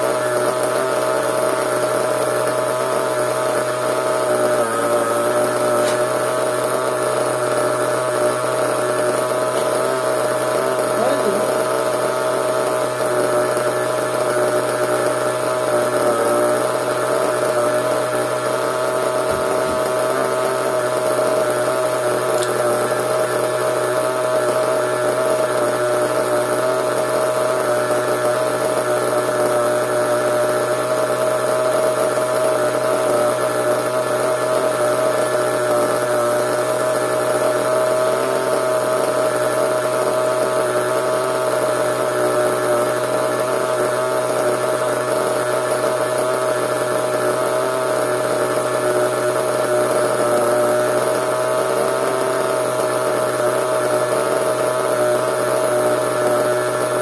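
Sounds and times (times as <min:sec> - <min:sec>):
small nitro engine running: 0:00.0 - 0:57.0.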